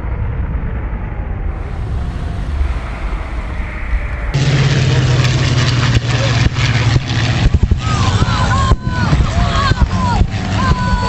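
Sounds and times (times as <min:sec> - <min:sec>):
rock blast rumble: 0:00.0 - 0:11.0
steady low drone: 0:00.0 - 0:11.0.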